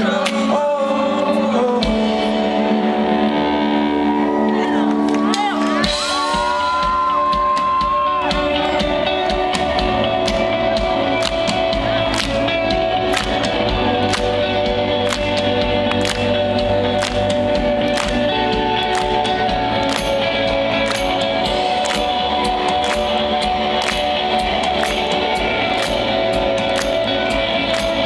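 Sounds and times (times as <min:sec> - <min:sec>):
rock band playing: 0:00.0 - 0:28.0
drums keeping a steady beat: 0:05.1 - 0:28.0.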